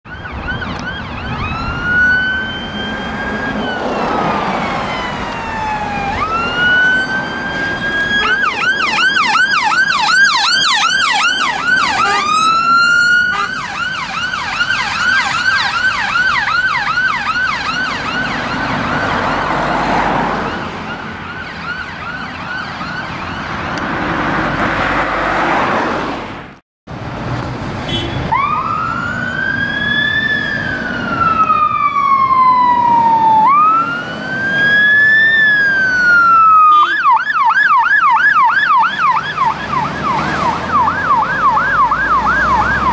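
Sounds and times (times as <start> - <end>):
ambulance siren wailing and yelping: 0.0 - 23.8, 28.3 - 42.9
fire engine siren wailing: 0.0 - 25.4, 28.2 - 42.9
engine and road noise: 0.0 - 42.9.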